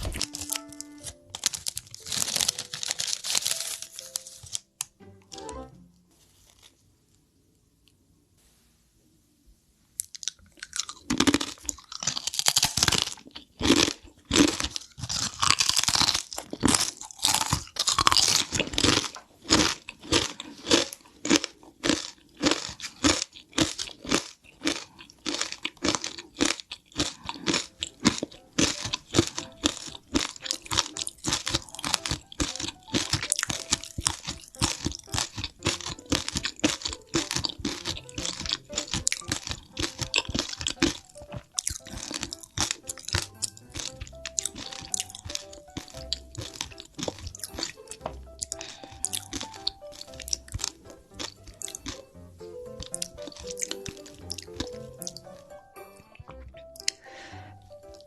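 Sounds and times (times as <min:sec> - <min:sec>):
crunching a tortilla chip: 0:00.0 - 0:04.7, 0:10.0 - 0:55.5
soft music: 0:00.0 - 0:06.7, 0:11.2 - 0:58.0.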